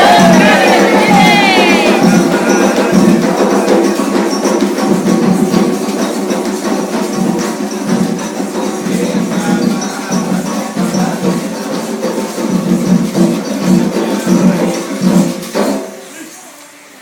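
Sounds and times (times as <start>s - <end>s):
voices singing: 0.0s - 16.2s
drums: 0.0s - 16.3s
shaken percussion rattling: 0.0s - 16.3s.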